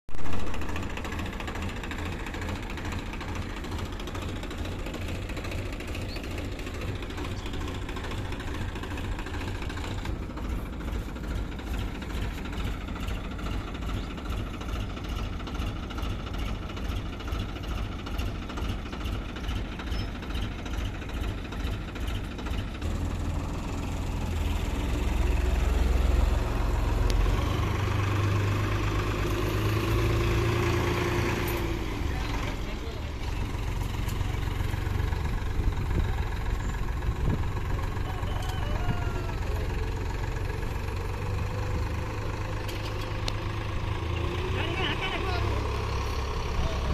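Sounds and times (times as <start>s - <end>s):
combine harvester engine: 0.1s - 46.9s.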